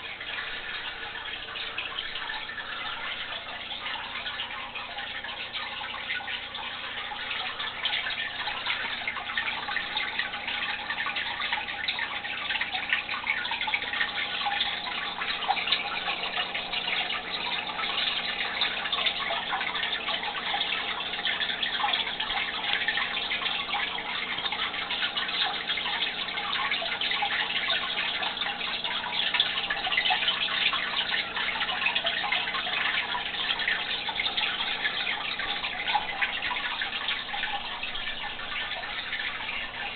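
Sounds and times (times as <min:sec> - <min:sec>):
aquarium water trickling and splashing: 0:00.0 - 0:39.9.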